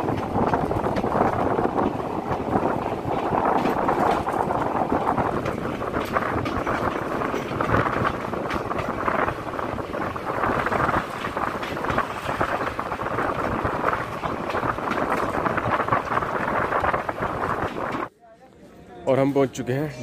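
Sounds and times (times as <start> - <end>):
train wheels on rails: 0.0 - 18.1
wind buffeting microphone: 0.0 - 18.1.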